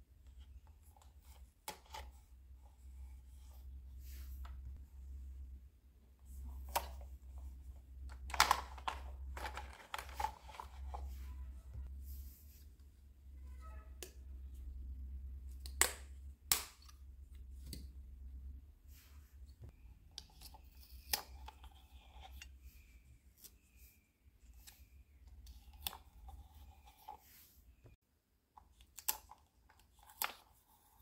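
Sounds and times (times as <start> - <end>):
low steady hum: 0.0 - 28.4.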